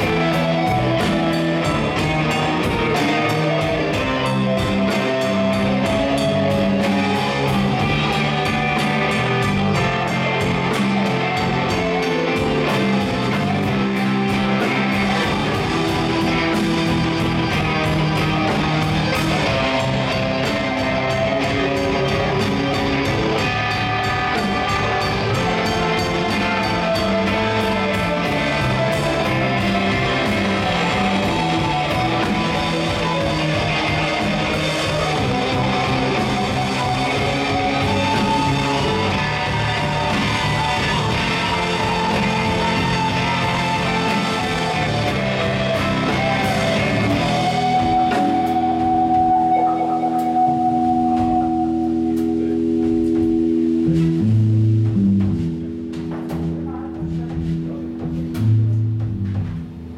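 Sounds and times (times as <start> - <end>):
bass guitar: 0.0 - 59.9
drum kit beat: 0.0 - 59.9
electric guitars: 0.0 - 59.9.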